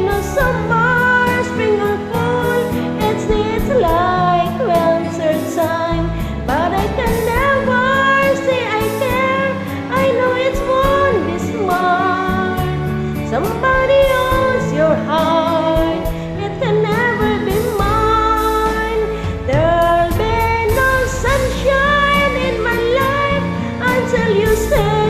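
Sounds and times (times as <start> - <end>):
pop ballad backing track: 0.0 - 25.0
woman singing: 0.0 - 25.0.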